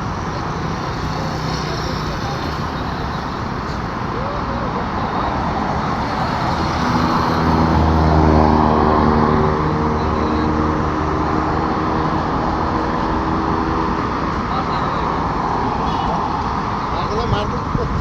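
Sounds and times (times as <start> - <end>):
road traffic noise: 0.0 - 18.0
vehicle engine humming: 0.0 - 18.0.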